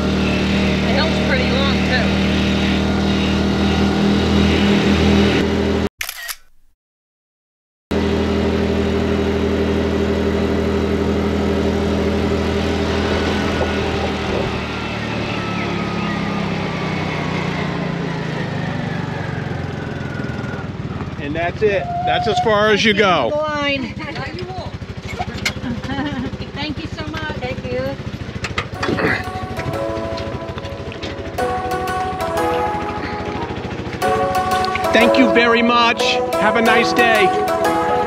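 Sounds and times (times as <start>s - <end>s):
small engine running: 0.0s - 6.6s, 7.9s - 38.0s.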